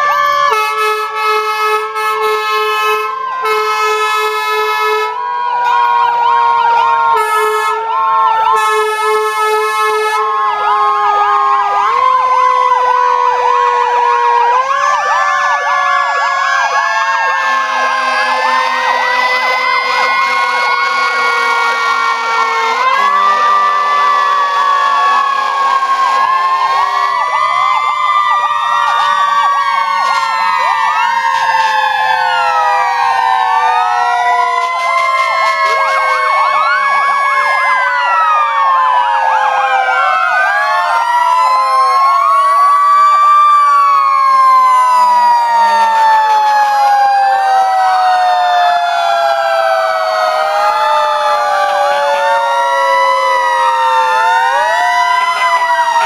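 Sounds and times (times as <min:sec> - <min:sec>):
emergency sirens wailing: 0:00.0 - 0:56.0.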